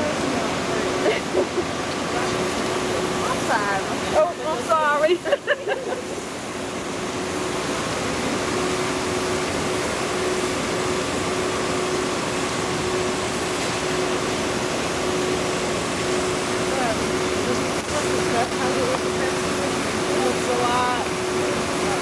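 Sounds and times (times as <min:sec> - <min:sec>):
faint machine hum: 0:00.0 - 0:22.0
water spraying onto tank surface: 0:00.0 - 0:22.0.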